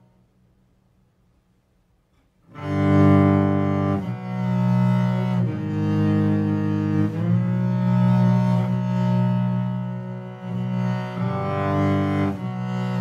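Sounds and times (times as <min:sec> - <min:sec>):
bowed double bass: 0:02.5 - 0:13.0.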